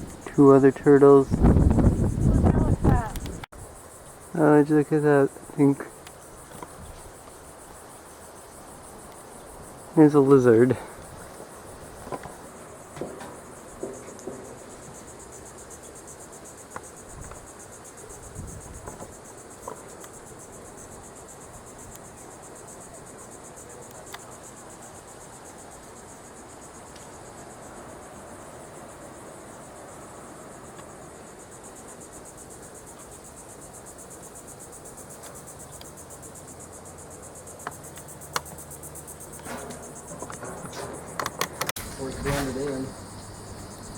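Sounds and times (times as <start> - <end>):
insect chorus trilling: 0.0 - 43.9.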